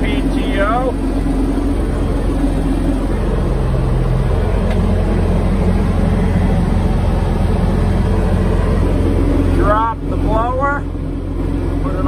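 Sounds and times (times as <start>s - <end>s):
diesel engine at high revs: 0.0s - 12.0s.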